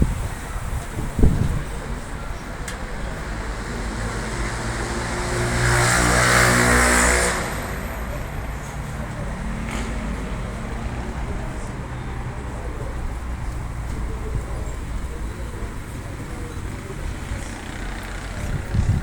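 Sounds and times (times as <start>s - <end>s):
vehicle passing close by: 2.5s - 19.0s.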